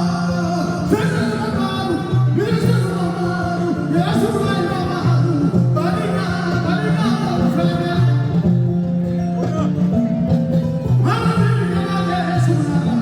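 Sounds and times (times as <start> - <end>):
person singing: 0.0 - 8.4, 11.0 - 13.0
low bass notes: 0.0 - 13.0
plucked harp-lute melody: 0.0 - 13.0.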